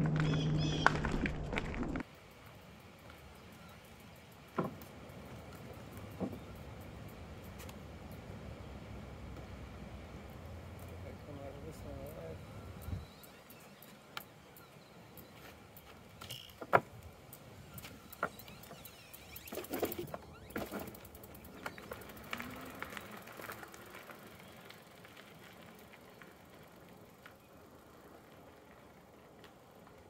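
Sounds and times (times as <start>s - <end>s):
e-bike rattling over rough trail: 0.0s - 30.0s.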